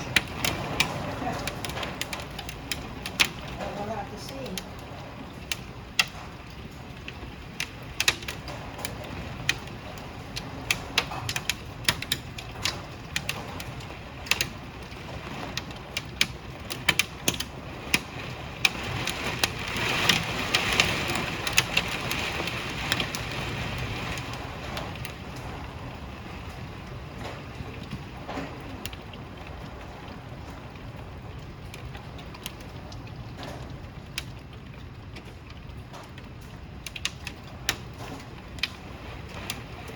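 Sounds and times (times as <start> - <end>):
hailstones knocking: 0.0 - 39.9
heavy rain: 0.0 - 39.9.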